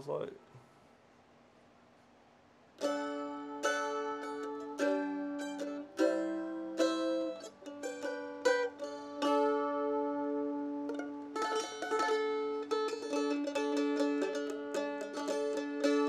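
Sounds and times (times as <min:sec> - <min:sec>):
mandolin picking notes and chords: 0:02.8 - 0:16.0.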